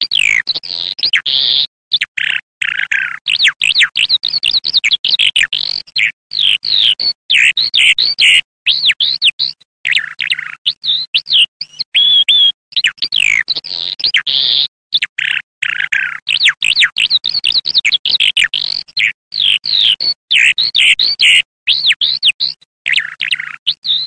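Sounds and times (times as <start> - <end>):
skylark song: 0.0 - 24.0.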